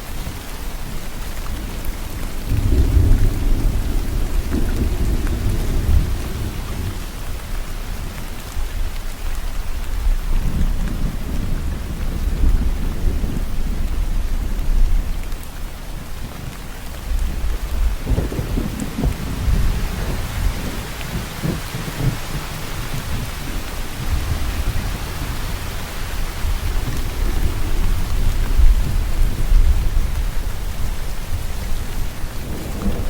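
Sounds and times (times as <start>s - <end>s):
rain hissing: 0.0s - 33.0s
low thunder rumble: 1.6s - 33.0s.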